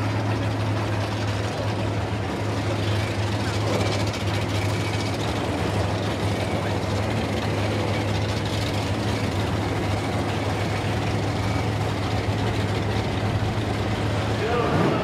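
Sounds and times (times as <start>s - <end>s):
engine idling: 0.0s - 15.0s
trackside noise: 0.0s - 15.0s.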